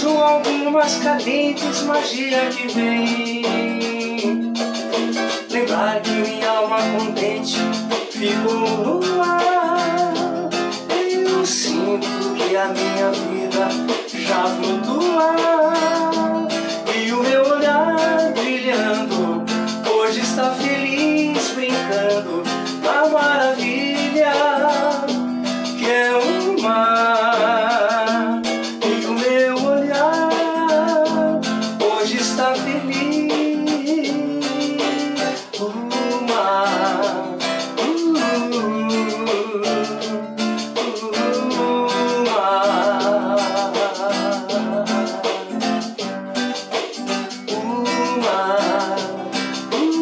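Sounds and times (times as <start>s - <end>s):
man singing: 0.0s - 50.0s
nylon-string guitar: 0.0s - 50.0s.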